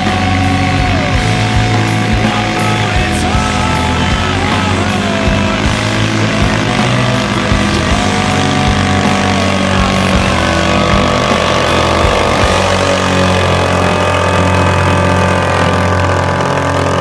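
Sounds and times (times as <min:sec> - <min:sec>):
garden tractor engine under load: 0:00.0 - 0:17.0.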